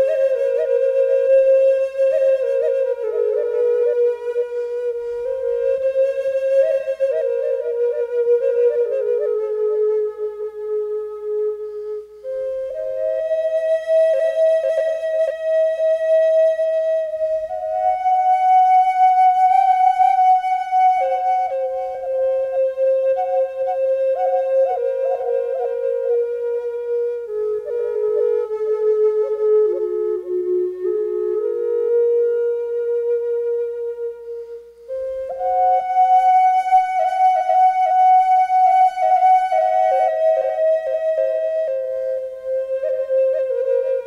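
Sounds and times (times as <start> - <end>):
flute playing long notes: 0.0 - 44.0.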